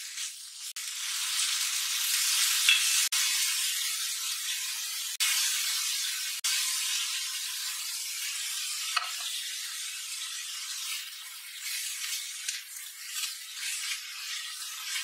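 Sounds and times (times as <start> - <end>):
root strips sizzling in a pan: 0.0 - 15.0.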